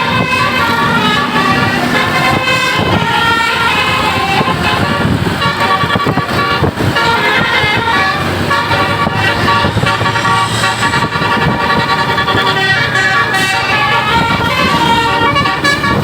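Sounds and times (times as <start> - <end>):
bus engine rumble: 0.0 - 16.0
multi-tone air horn playing tune: 0.0 - 16.0.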